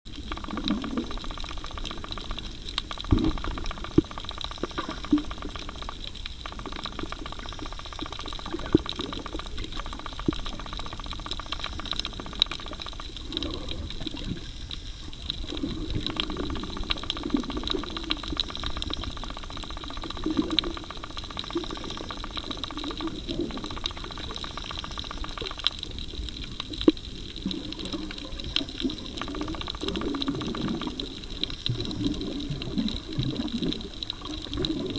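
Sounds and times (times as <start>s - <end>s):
swirling water surging underwater: 0.1s - 34.9s.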